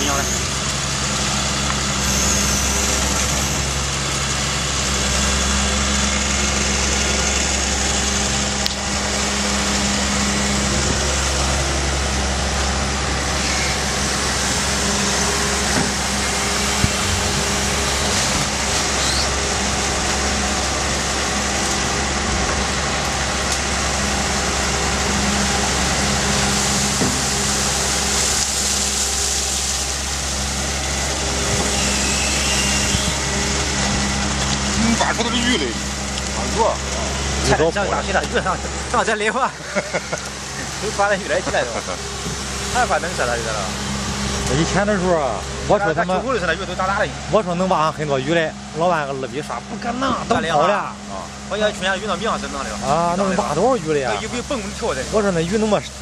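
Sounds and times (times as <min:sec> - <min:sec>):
diesel excavator engine humming: 0:00.0 - 0:56.0.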